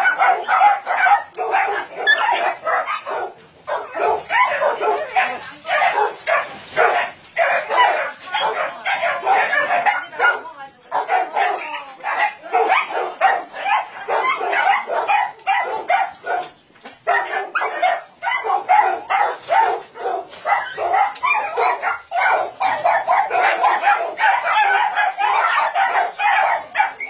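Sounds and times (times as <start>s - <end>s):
many dogs barking: 0.0s - 27.0s.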